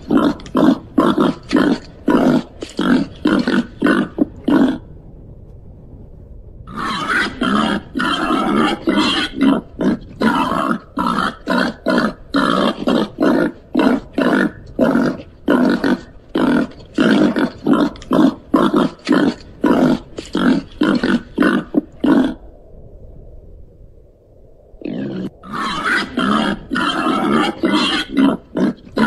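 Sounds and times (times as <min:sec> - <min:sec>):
babirusa grunting: 0:00.0 - 0:04.9, 0:06.7 - 0:22.4, 0:24.8 - 0:29.0.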